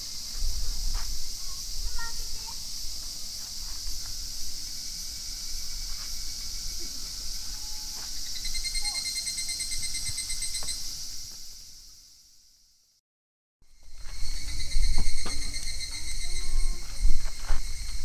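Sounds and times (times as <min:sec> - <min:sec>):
insects chorus: 0:00.0 - 0:13.0, 0:13.7 - 0:18.0.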